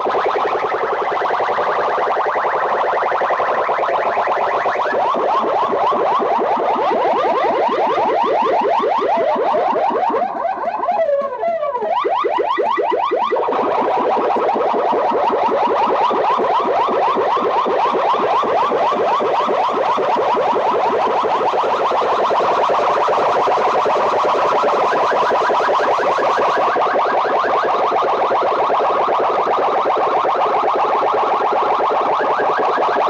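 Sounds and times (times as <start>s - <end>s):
electronic siren-like sweep tones: 0.0s - 33.0s.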